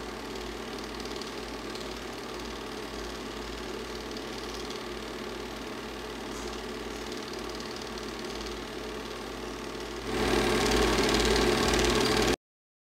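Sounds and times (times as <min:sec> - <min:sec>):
film projector whirring: 0:00.0 - 0:12.4.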